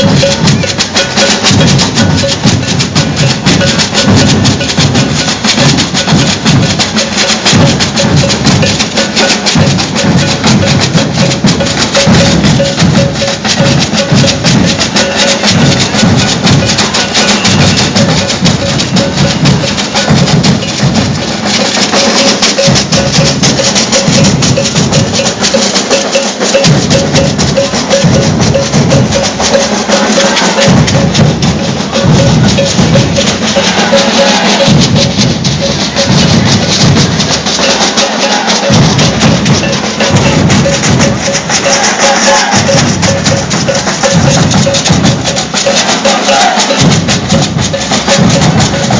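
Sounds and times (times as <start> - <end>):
deep drum beats: 0.0 - 48.9
ringing bell: 0.0 - 48.9
snare drums and shakers rattling: 0.0 - 48.9.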